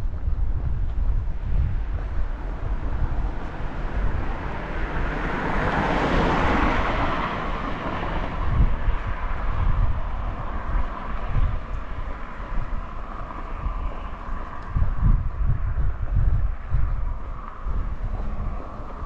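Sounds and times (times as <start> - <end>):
wind buffeting microphone: 0.0 - 19.0
vehicle passing: 1.2 - 19.0.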